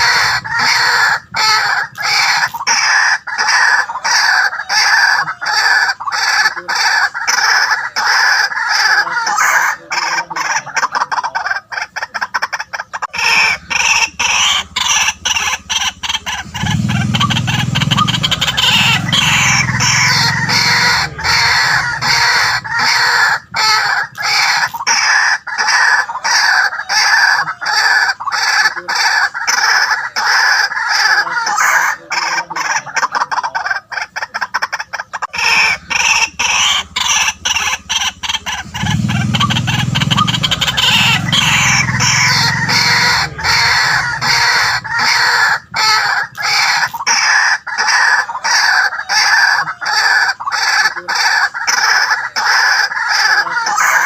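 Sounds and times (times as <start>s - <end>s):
waterhen calling: 0.0s - 54.0s.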